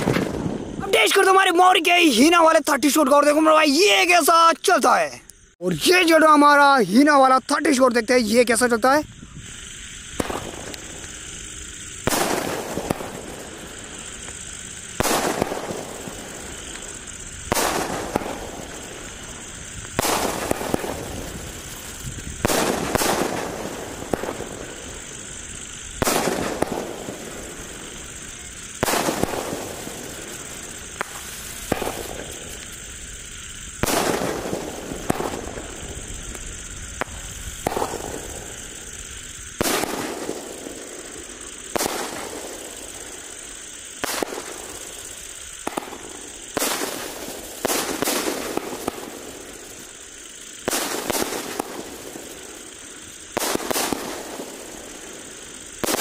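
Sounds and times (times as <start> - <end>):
firework bangs: 0.0 - 4.0, 9.2 - 56.0
firework crackle: 0.0 - 56.0
steady hiss: 0.0 - 56.0.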